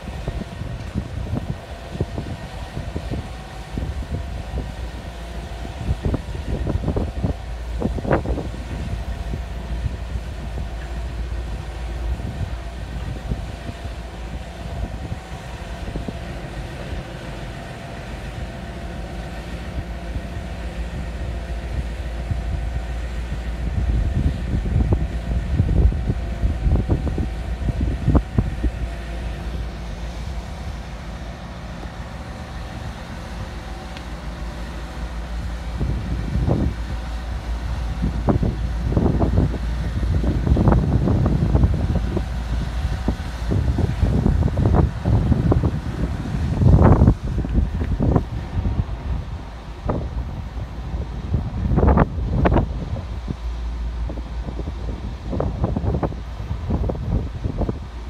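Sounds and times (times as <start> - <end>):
diesel engines humming: 0.0 - 58.0.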